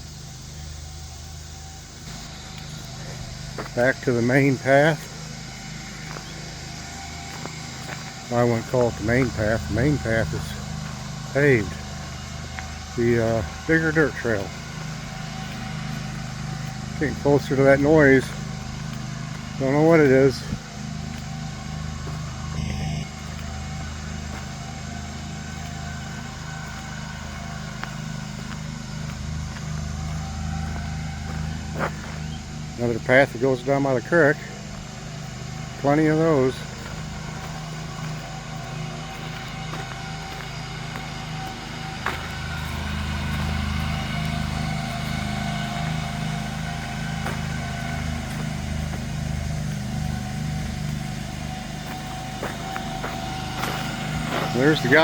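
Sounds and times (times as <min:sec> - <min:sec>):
faint high whine: 0:00.0 - 0:55.0
lawn mower engine running: 0:00.0 - 0:55.0.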